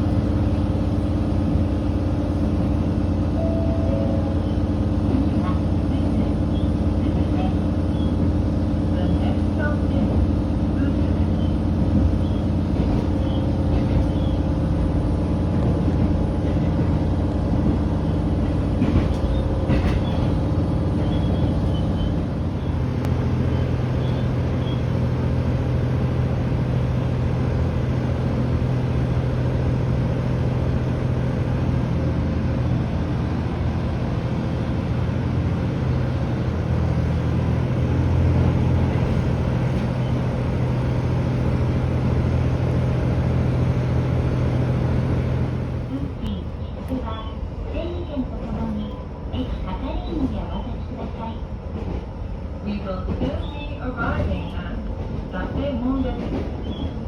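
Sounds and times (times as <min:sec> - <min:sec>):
diesel railcar engine drone: 0:00.0 - 0:57.0.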